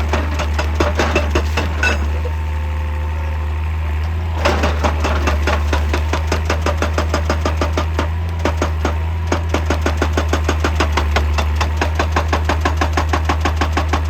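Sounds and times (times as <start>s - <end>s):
hydraulic breaker hammering rock: 0.0s - 3.0s, 4.1s - 14.0s
excavator engine running: 0.0s - 14.0s.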